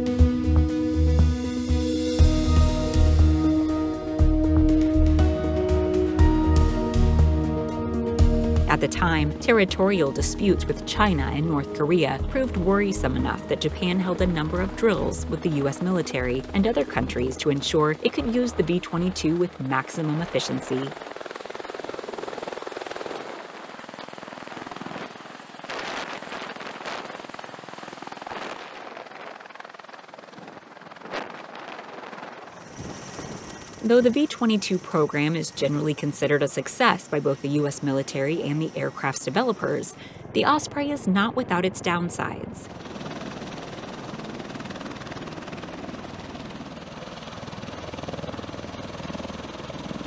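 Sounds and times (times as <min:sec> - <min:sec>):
rotors beating overhead: 0:00.0 - 0:46.8.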